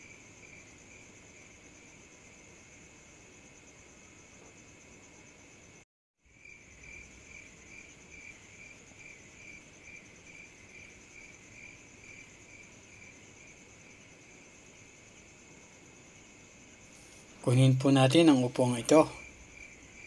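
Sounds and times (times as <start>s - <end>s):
crickets chirping: 0.0s - 20.0s
high continuous insect trill: 0.0s - 20.0s.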